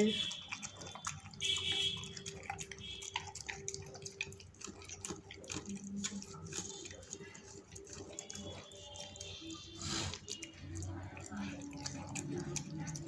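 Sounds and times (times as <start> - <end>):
dog eating from a bowl: 0.0 - 13.0.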